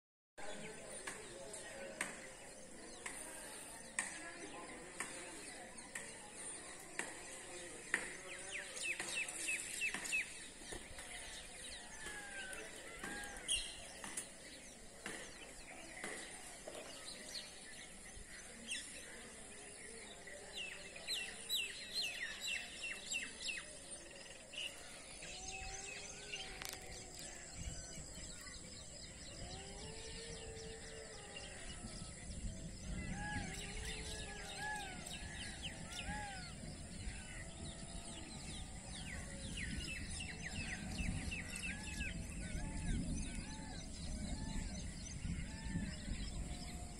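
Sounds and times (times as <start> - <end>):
birds chirping and twittering: 0.4 - 46.9.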